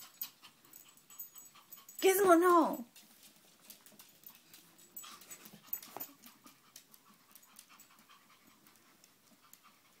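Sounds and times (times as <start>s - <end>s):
dog panting quickly: 0.0s - 2.3s, 4.1s - 10.0s.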